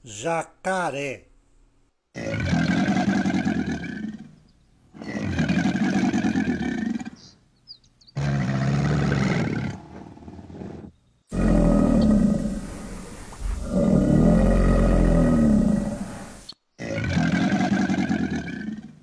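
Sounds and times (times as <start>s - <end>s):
alligator bellowing: 2.2s - 7.3s, 8.2s - 19.0s.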